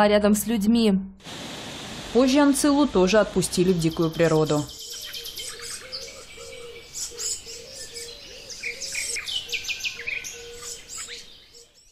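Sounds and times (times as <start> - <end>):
birds chirping: 2.1 - 11.9.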